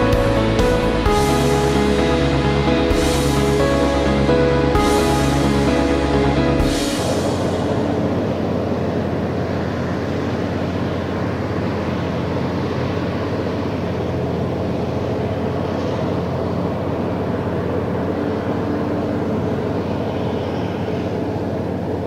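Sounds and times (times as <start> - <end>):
forage harvester machine drone: 0.0 - 22.0.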